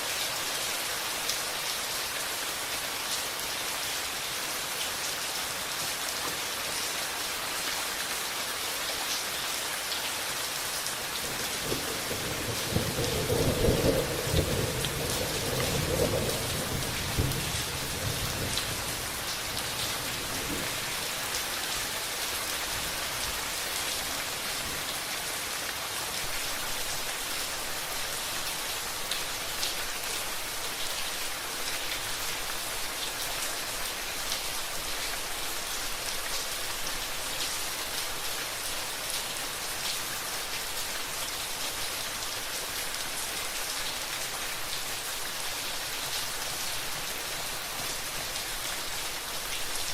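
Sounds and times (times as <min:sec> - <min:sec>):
rain pattering: 0:09.8 - 0:49.9.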